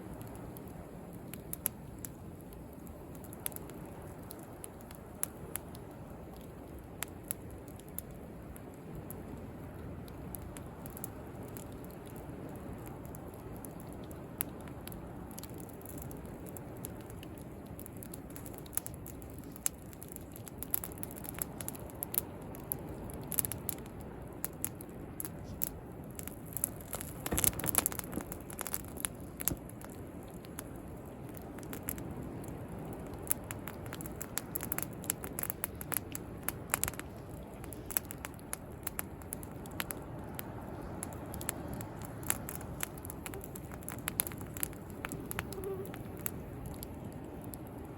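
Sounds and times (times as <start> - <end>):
bonfire crackling and popping: 0.0 - 47.9
sea waves: 7.4 - 47.9.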